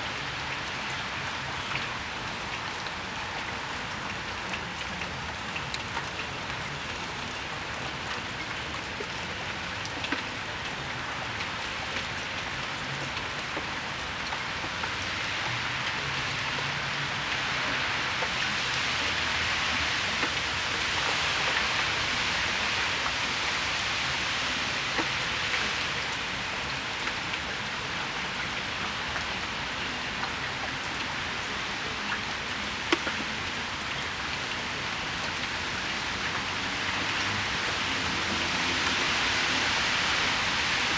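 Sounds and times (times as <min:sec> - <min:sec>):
raindrops ticking on surfaces: 0:00.0 - 0:40.9
steady rain hiss: 0:00.0 - 0:40.9.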